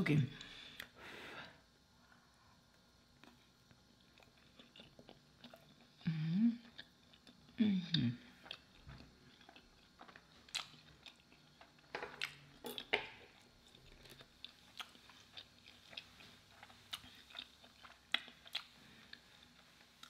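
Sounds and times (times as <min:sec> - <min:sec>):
person chewing food: 0:02.6 - 0:07.6, 0:08.3 - 0:20.0.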